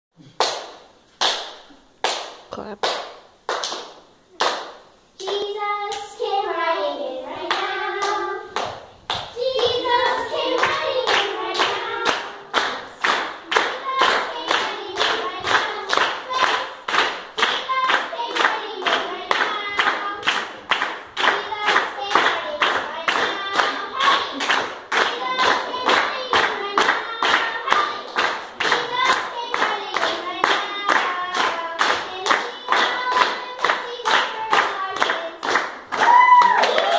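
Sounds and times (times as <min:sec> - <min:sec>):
hands clapping a steady beat: 0:00.2 - 0:06.0, 0:07.4 - 0:36.9
voices singing: 0:05.2 - 0:35.6.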